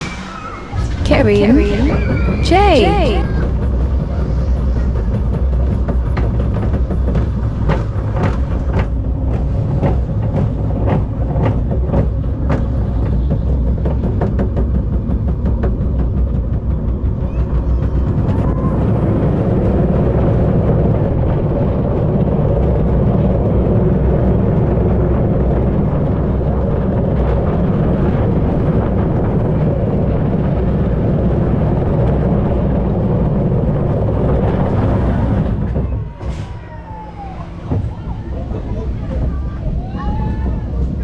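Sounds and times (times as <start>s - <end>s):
roller coaster wheels rumbling: 0.0s - 41.0s.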